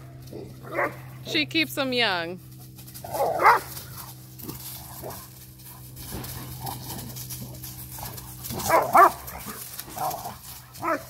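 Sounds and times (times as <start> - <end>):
dogs scuffling in dry leaves: 0.0 - 11.0.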